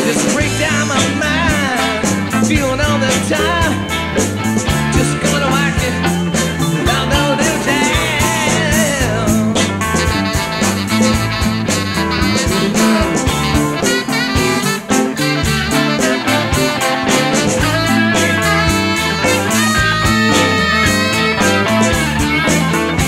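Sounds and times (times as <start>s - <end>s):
rock band playing: 0.0s - 23.0s
harmonica solo: 3.5s - 23.0s.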